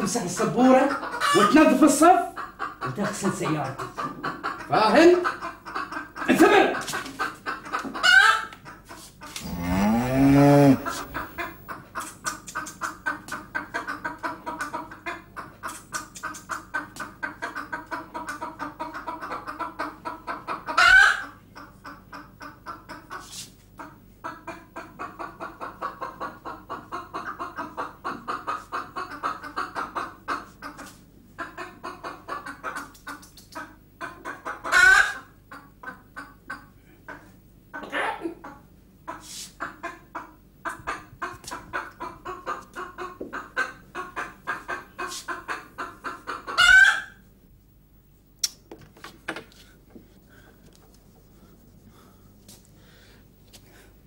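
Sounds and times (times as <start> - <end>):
chickens clucking: 0.0 - 47.3
chicken squawks: 0.7 - 47.2.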